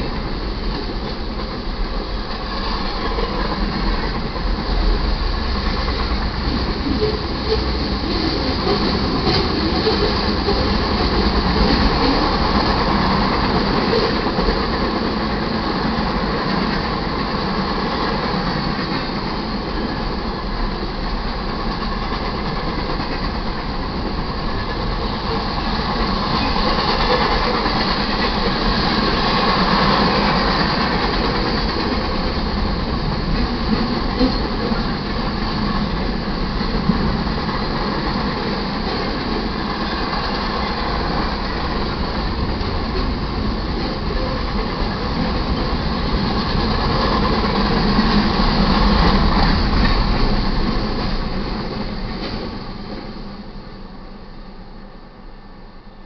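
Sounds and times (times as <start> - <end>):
train wheels rumbling and rattling: 0.0 - 56.0.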